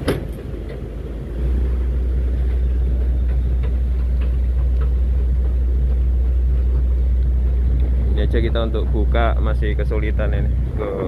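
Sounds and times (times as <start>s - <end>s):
deep steady rumble: 0.0s - 11.0s.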